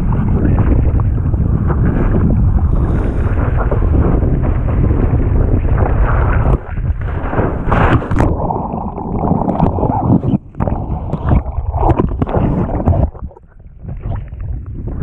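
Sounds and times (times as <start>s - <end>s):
water splashing and gurgling: 0.0s - 15.0s
wind buffeting microphone: 0.0s - 15.0s.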